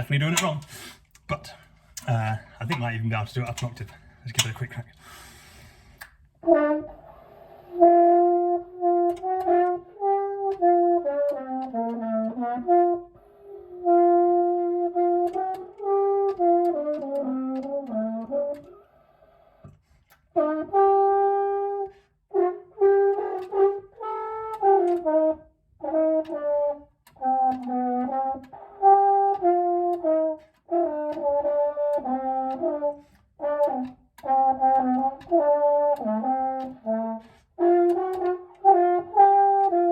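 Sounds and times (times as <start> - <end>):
french horn playing scales: 6.1 - 39.9.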